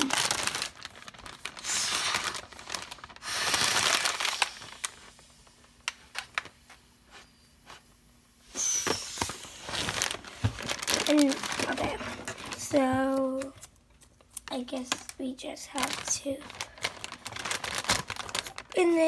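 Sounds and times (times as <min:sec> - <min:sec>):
foil package crinkling: 0:00.0 - 0:06.6, 0:08.9 - 0:19.0.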